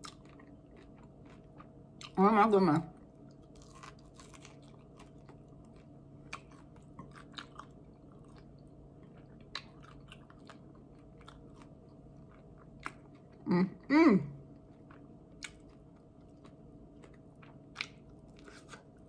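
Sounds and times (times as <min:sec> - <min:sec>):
person chewing: 0:00.0 - 0:02.2, 0:03.0 - 0:13.4, 0:14.4 - 0:19.0
small crunches while chewing: 0:00.0 - 0:02.2, 0:03.0 - 0:13.4, 0:14.5 - 0:19.0.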